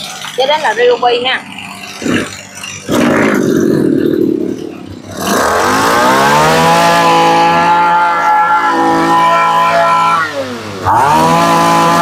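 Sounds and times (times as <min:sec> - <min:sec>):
brush cutter engine revving: 0:00.0 - 0:12.0.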